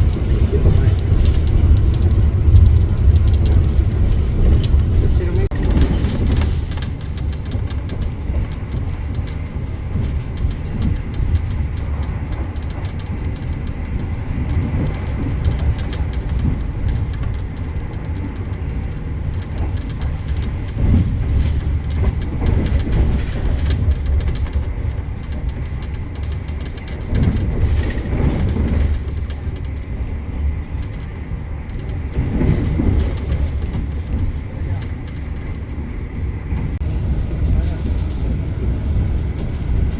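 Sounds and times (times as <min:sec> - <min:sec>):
clicks and rattles: 0:00.0 - 0:35.8
train rumbling: 0:00.0 - 0:39.9.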